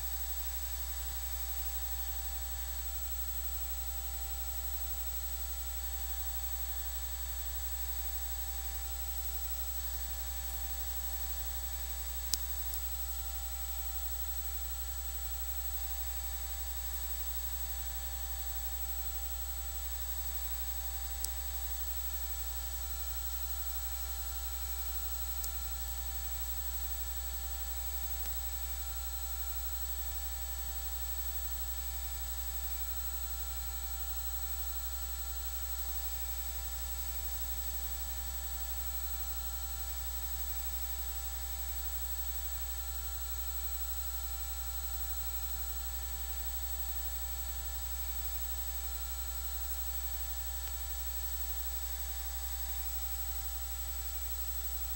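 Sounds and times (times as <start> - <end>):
low mains hum: 0.0 - 54.9.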